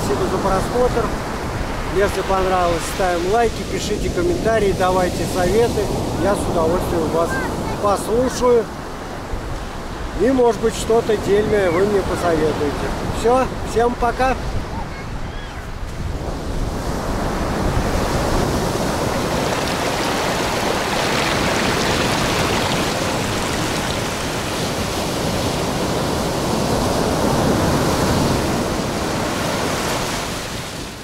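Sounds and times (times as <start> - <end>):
waves breaking on sand: 0.0 - 31.0.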